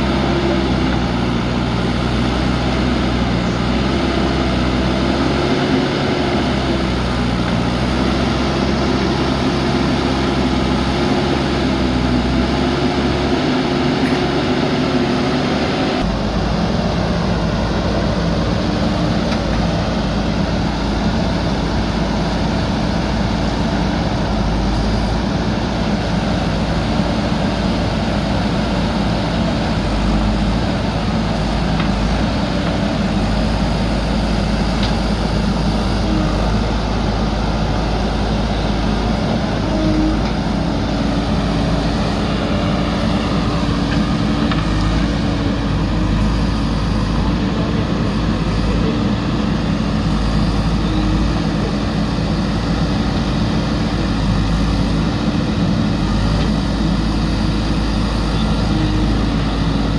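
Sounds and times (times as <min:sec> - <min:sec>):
backhoe loader diesel engine: 0:00.0 - 0:59.9.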